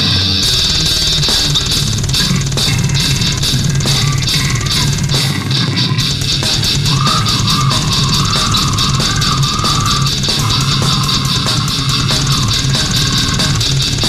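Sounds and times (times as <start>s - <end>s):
distorted guitars: 0.0s - 14.0s
fast drumming with cymbals: 0.0s - 14.0s
heavy metal music: 0.0s - 14.0s.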